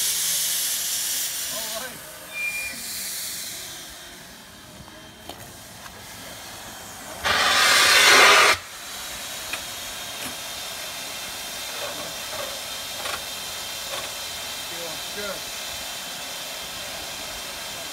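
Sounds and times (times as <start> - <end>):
loud burst of venting steam: 0.0 - 4.1, 5.5 - 17.9
steam locomotive hissing: 0.0 - 17.9.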